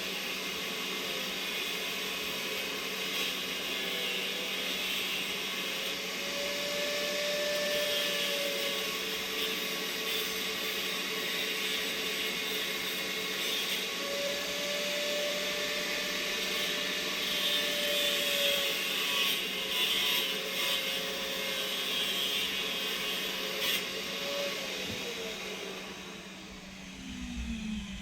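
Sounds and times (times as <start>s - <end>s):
power tool whining: 0.0s - 28.0s.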